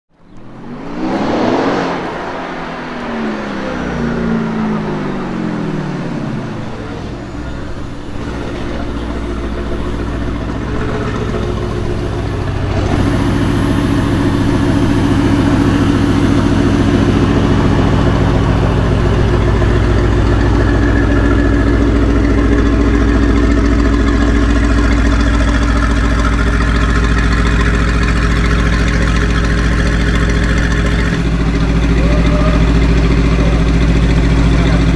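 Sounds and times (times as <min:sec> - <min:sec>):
car engine revving and idling: 0:00.1 - 0:34.9.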